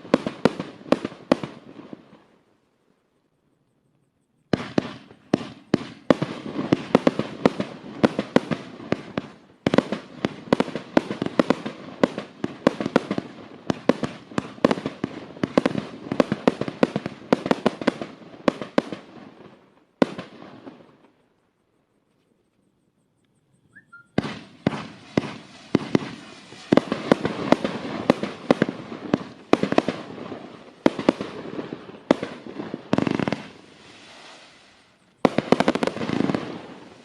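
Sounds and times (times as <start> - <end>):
fireworks banging: 0.0 - 2.3, 4.4 - 21.3, 23.8 - 37.0.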